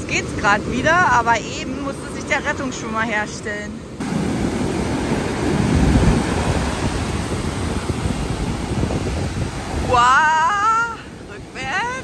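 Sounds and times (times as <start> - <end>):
waves breaking on a beach: 0.0 - 12.0.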